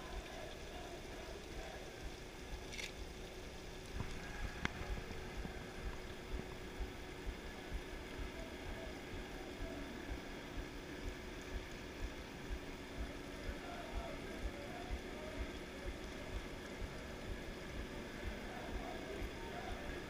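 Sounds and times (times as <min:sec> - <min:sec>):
steady hum: 0:00.0 - 0:20.0
low rumble: 0:03.8 - 0:20.0.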